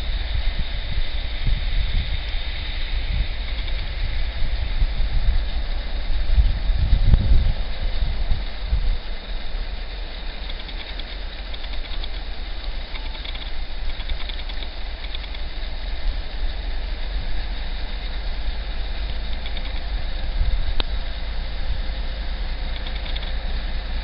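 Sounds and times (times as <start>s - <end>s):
locomotive engine rumble: 0.0s - 24.0s
faint ticking: 2.2s - 4.6s, 6.4s - 24.0s.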